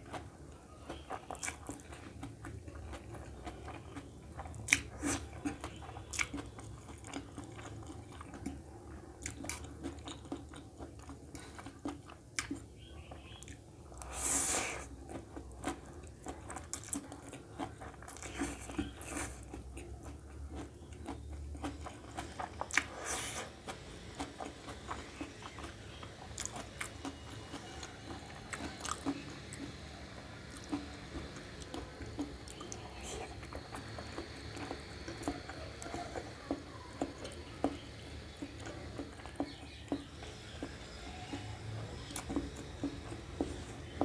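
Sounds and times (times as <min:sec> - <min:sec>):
chewing and slurping noodles: 0:00.0 - 0:44.0.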